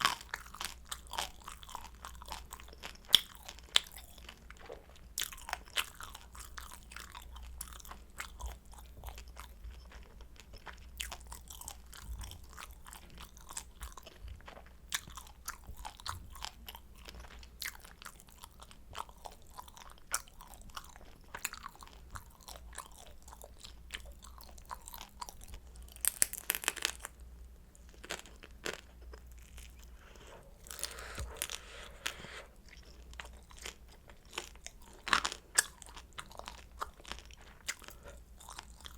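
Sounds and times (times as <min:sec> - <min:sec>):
crunchy chewing of fried dumplings: 0:00.0 - 0:38.9.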